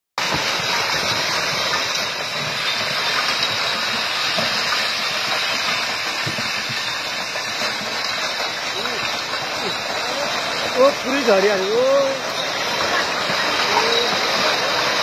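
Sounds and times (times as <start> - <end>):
landslide debris rushing: 0.2 - 15.0.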